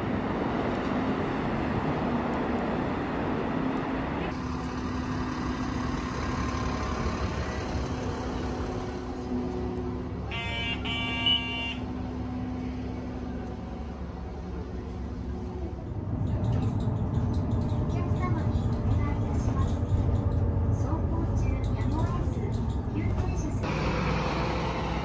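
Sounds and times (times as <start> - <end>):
bus humming: 0.0 - 25.0.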